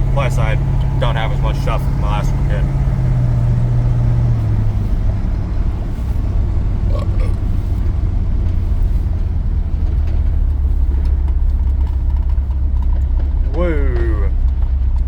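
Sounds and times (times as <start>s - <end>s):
road noise: 0.0s - 15.0s
truck engine droning: 0.0s - 15.0s.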